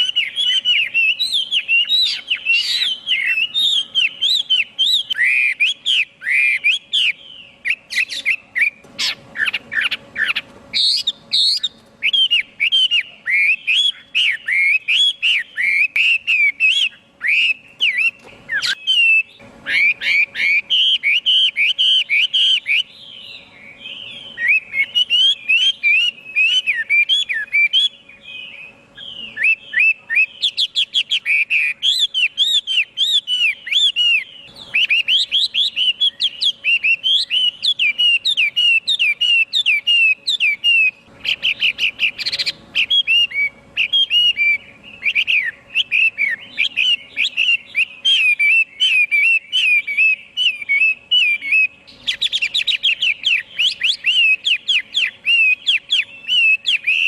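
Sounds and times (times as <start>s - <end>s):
bird singing whistled trills: 0.0s - 57.0s.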